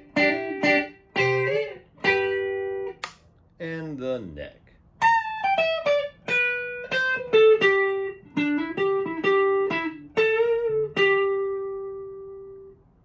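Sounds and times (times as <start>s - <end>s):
clean electric guitar melody: 0.0s - 3.0s, 5.0s - 12.9s.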